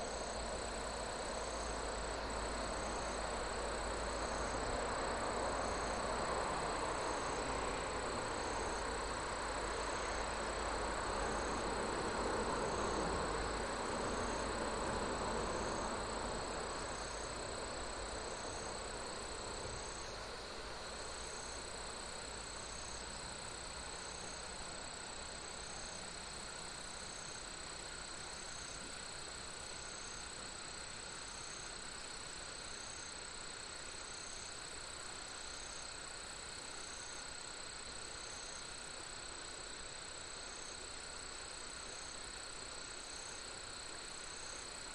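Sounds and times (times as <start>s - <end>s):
insects chirping chorus: 0.0s - 44.9s.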